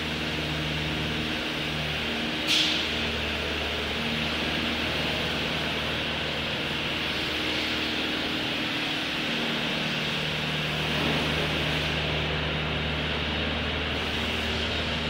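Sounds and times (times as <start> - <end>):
bus wash rushing hiss: 0.0 - 15.0.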